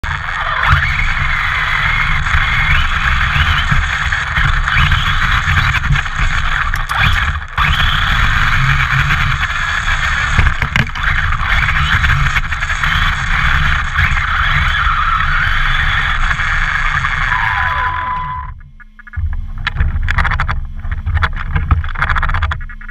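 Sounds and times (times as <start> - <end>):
rc truck motor and tyre noise: 0.0 - 22.9.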